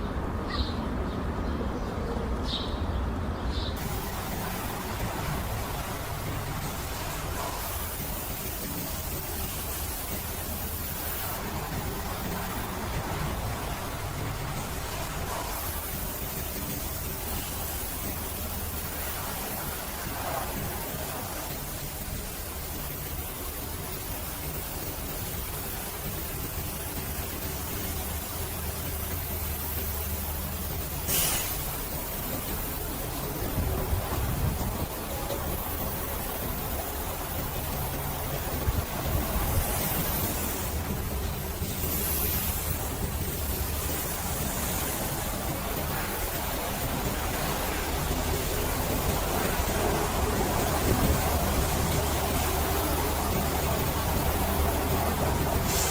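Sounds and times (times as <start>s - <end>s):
pressure washer spray hissing: 3.8s - 55.9s.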